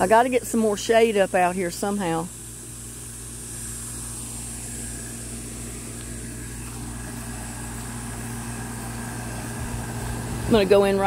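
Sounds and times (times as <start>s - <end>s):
high-pitched hiss: 0.0s - 11.0s
low machine hum: 0.0s - 11.0s.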